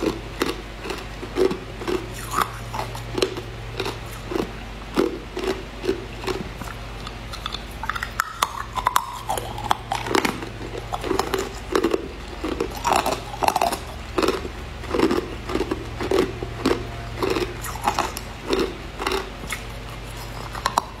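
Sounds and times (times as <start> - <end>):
chewing ice crunch: 0.0 - 21.0.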